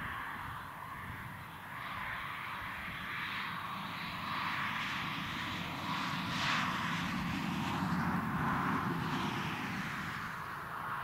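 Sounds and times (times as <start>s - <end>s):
engine drone with low rumble: 0.0s - 11.0s.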